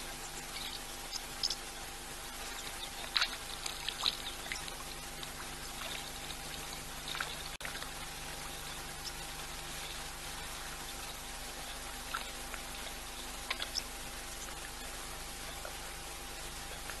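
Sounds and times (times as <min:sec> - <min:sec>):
faint electrical hum: 0:00.0 - 0:17.0
small ticks and chirps: 0:00.0 - 0:17.0
steady hiss: 0:00.0 - 0:17.0.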